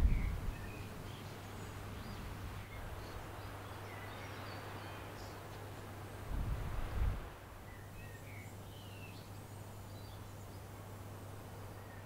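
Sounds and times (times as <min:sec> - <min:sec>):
small birds chirping: 0:00.0 - 0:06.4, 0:07.6 - 0:12.0
low outdoor background hum: 0:00.0 - 0:12.0.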